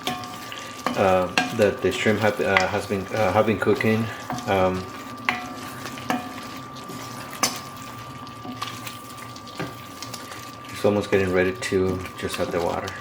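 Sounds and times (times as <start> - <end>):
shrimp sizzling in oil: 0.0 - 13.0.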